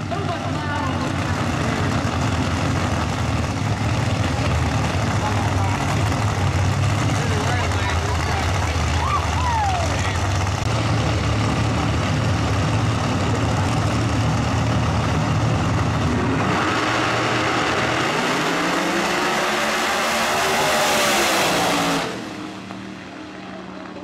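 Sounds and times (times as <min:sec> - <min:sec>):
drag race cars accelerating: 0:00.0 - 0:24.0.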